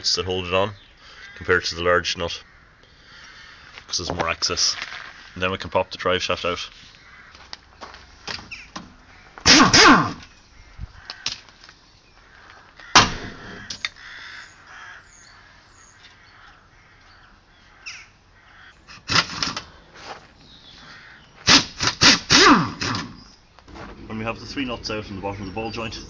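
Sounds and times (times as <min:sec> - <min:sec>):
harsh bird calls: 0:00.0 - 0:04.1, 0:05.1 - 0:26.0.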